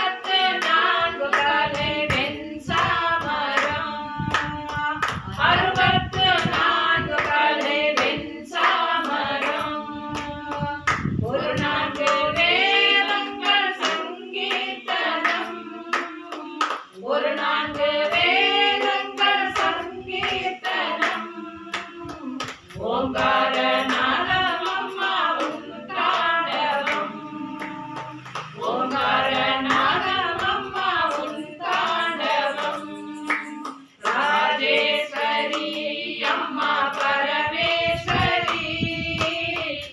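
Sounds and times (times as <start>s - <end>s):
hand claps: 0.0s - 39.9s
women singing in unison: 0.0s - 39.9s.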